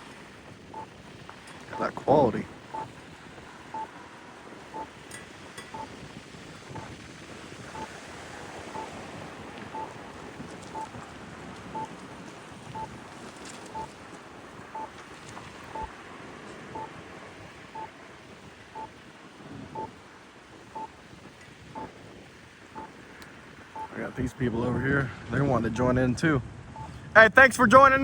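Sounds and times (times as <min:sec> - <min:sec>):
traffic noise: 0:00.0 - 0:28.0
wind: 0:00.0 - 0:28.0.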